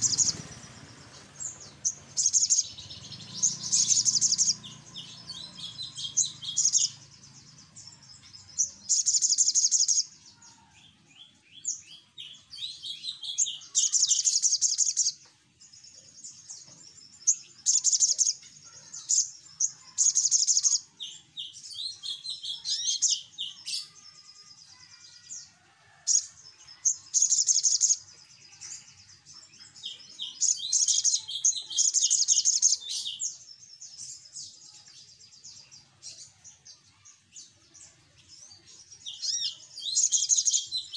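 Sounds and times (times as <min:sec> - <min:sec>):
bird singing high rapid trills: 0:00.0 - 0:40.9.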